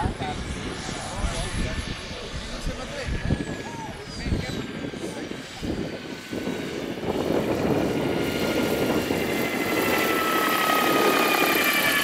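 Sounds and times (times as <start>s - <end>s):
model turbine whine: 0.0s - 12.0s
rotor blades rushing: 0.0s - 12.0s.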